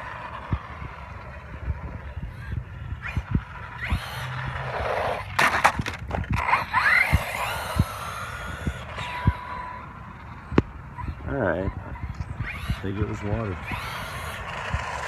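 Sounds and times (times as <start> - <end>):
electric motor whine: 0.0 - 15.0
toy truck tyres rolling: 0.0 - 15.0.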